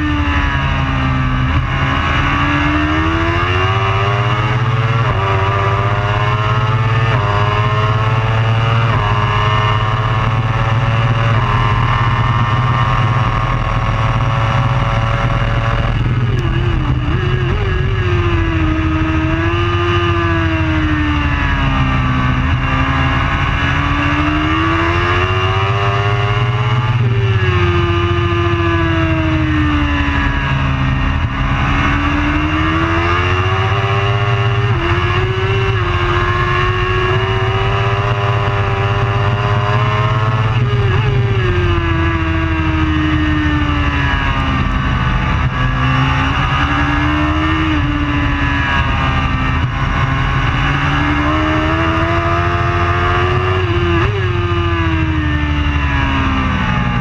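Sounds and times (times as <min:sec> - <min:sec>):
motorbike engine accelerating: 0:00.0 - 0:57.0.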